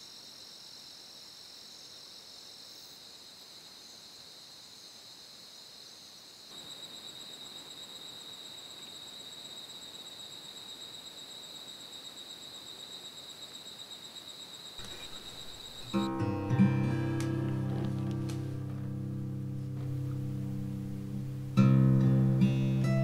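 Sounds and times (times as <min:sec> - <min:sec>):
night insects chirping: 0:00.0 - 0:23.0.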